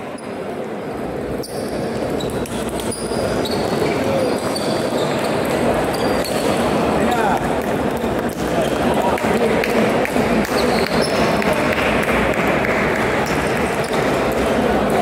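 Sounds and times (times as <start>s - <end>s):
sports hall hubbub: 0.0s - 15.0s.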